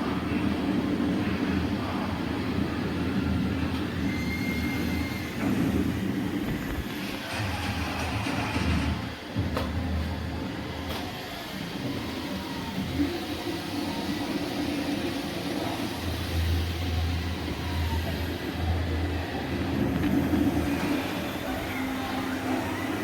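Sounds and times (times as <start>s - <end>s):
robot vacuum running: 0.0s - 23.0s.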